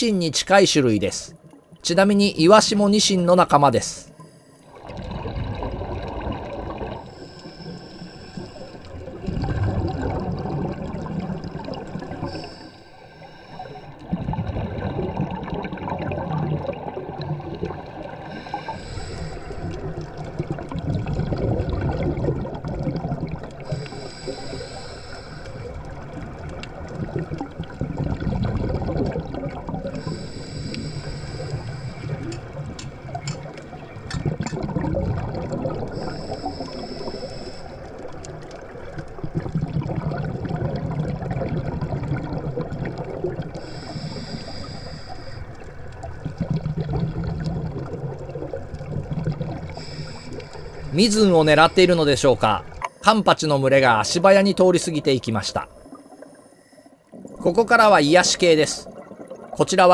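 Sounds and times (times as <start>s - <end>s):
underwater air bubbles: 0.5s - 59.9s.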